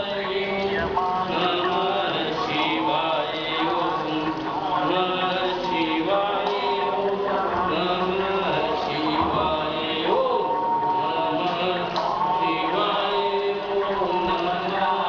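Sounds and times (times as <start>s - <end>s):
voices chanting a mantra: 0.0s - 15.0s.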